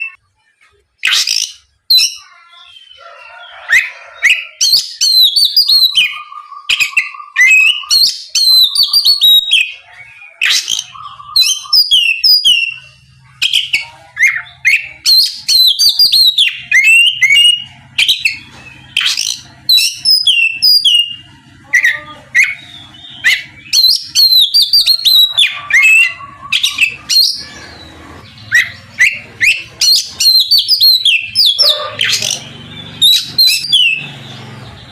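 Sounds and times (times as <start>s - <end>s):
bird singing whistled notes: 1.0s - 34.9s.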